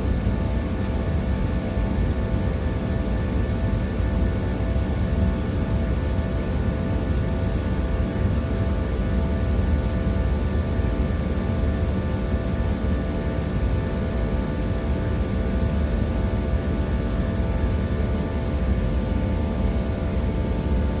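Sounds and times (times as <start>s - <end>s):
deep rumble of engines and air: 0.0s - 21.0s.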